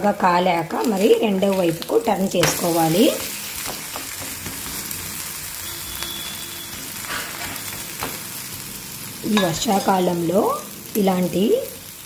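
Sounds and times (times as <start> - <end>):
oil sizzling on griddle: 0.0 - 12.0.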